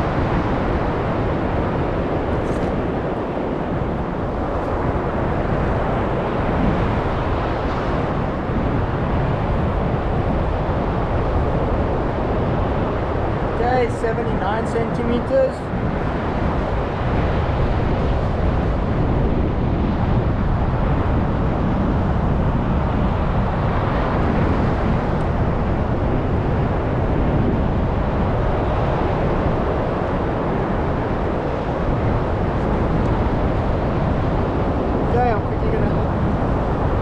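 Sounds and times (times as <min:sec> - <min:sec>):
breaking surf: 0:00.0 - 0:37.0
wind rumble on microphone: 0:00.0 - 0:37.0.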